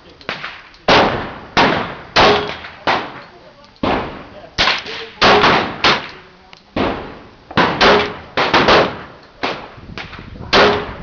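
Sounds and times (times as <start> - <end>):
pistol shots with echo: 0.3 - 6.2, 6.8 - 11.0.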